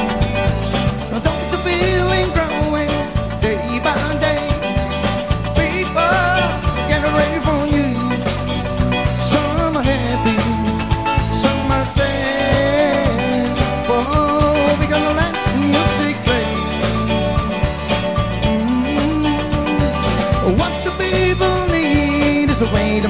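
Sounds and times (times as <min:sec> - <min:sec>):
bending lead guitar melody: 0:00.0 - 0:23.0
live rock band playing: 0:00.0 - 0:23.0.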